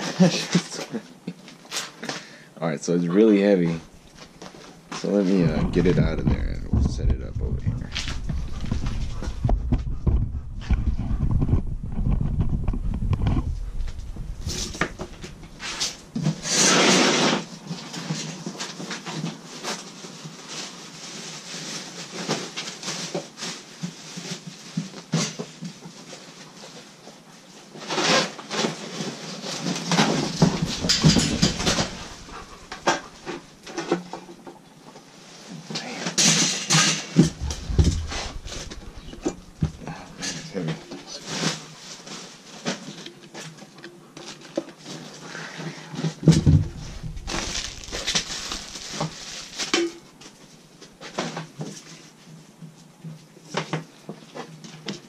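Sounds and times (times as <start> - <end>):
rustling and scraping of handling: 0.0 - 55.0.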